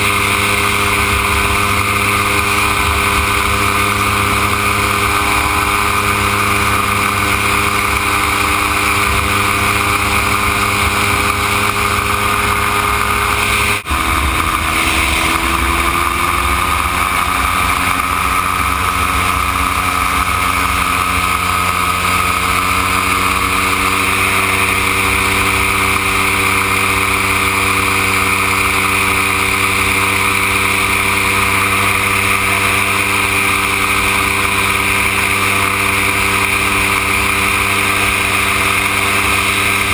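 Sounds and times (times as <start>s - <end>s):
gyroplane engine and propeller droning: 0.0s - 39.9s.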